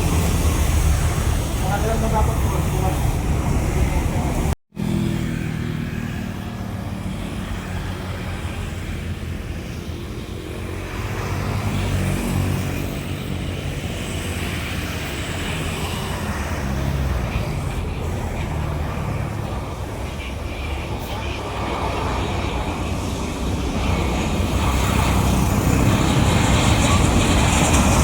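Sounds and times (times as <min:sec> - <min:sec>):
jet engines rumbling: 0:00.0 - 0:05.2, 0:05.9 - 0:28.0.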